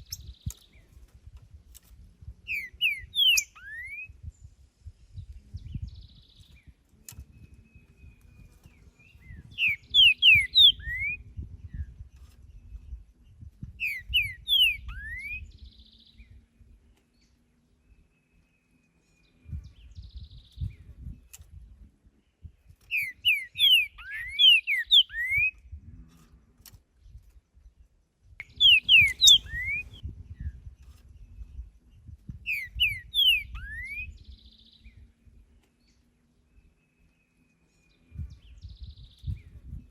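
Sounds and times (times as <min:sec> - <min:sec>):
bird singing whistled notes: 0:00.0 - 0:01.0, 0:02.4 - 0:21.6, 0:22.3 - 0:25.8, 0:28.2 - 0:39.9.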